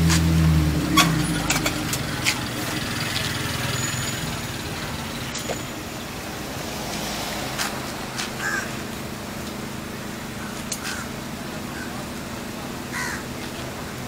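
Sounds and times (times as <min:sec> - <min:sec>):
low engine hum: 0:00.0 - 0:14.0
road traffic: 0:00.0 - 0:14.0.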